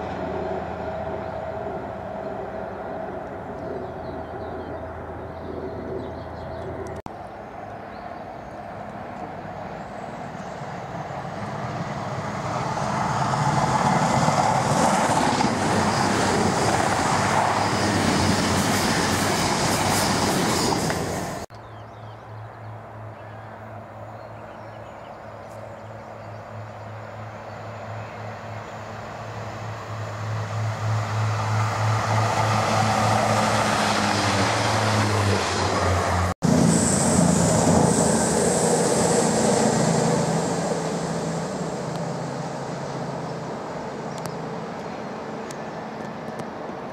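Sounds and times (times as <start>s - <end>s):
train rushing past: 0.0s - 5.4s, 8.2s - 21.5s, 26.5s - 46.9s
train engine drone: 0.0s - 46.9s.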